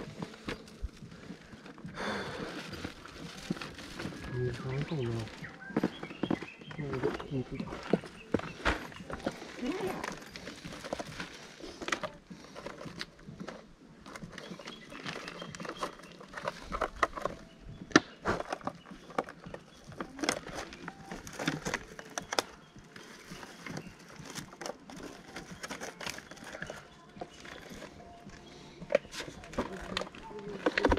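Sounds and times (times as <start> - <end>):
bag rustling and crinkling: 0.0 - 30.9.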